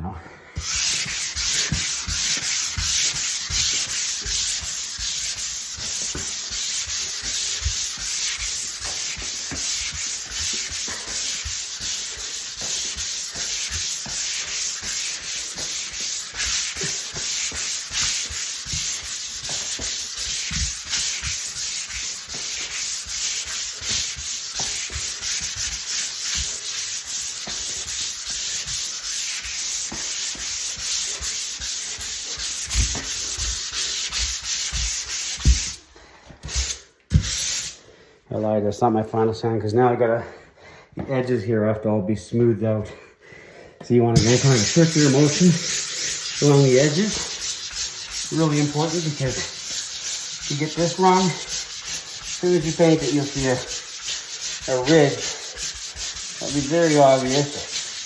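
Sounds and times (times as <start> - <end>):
hand sanding drywall: 0.5 - 38.0, 44.1 - 58.0.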